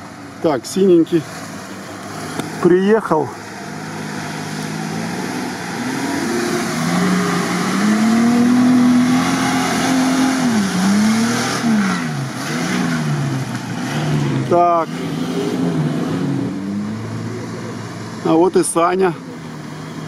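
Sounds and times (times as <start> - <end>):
engine revving under load: 0.7 - 20.0.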